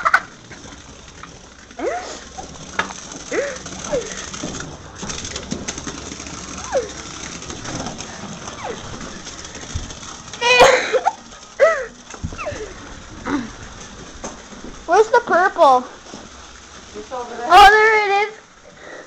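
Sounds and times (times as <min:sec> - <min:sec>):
toy whirring rattle: 0:00.0 - 0:19.0.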